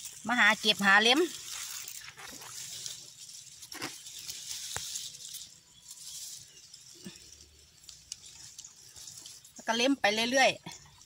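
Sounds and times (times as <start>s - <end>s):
grass rustling against phone: 0.0s - 10.0s.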